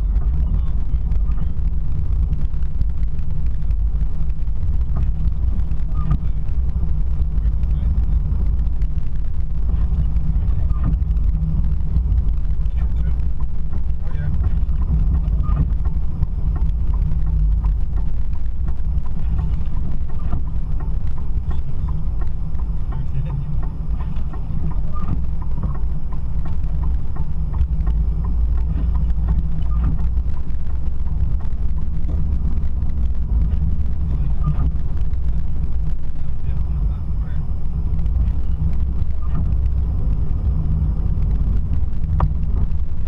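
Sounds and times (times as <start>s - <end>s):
engine and road rumble: 0.0s - 43.0s.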